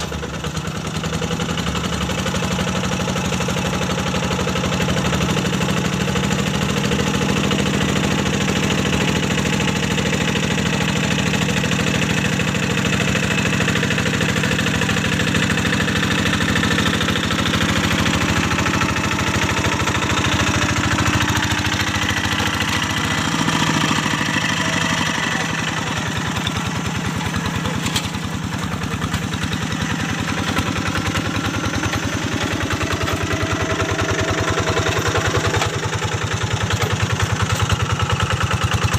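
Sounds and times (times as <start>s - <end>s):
hand tractor diesel engine running: 0.0s - 38.9s.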